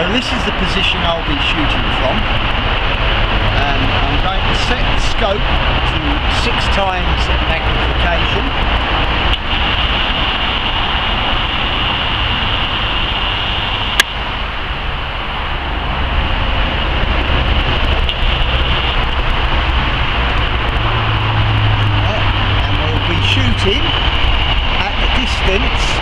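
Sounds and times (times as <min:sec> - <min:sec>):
rumbling hissing background noise: 0:00.0 - 0:26.0.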